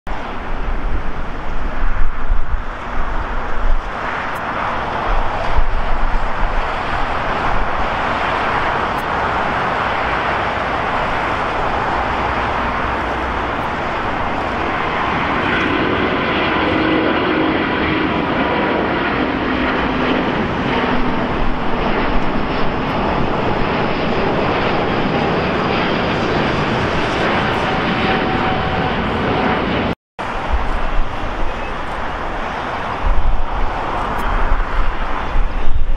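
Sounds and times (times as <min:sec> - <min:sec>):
jet engine whine: 0:00.1 - 0:35.9
jet engines roaring: 0:00.1 - 0:35.9.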